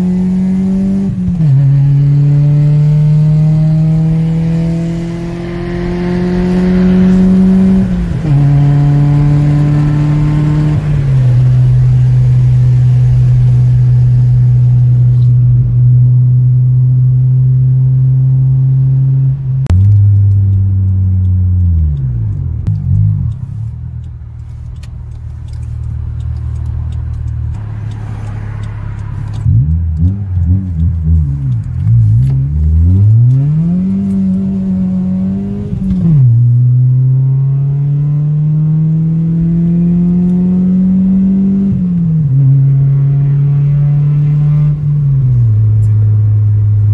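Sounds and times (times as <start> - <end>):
car engine revving from inside: 0.0 - 23.7, 27.5 - 46.9.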